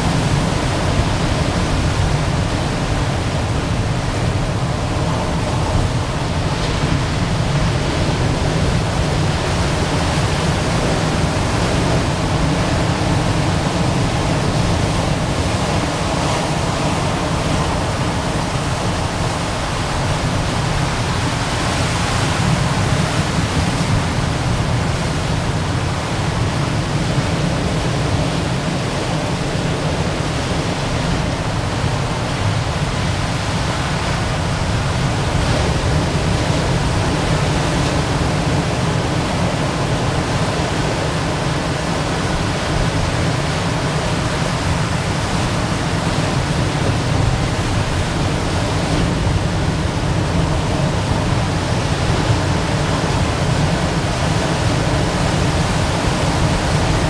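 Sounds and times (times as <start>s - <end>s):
ocean surf on rocks: 0.0s - 57.0s.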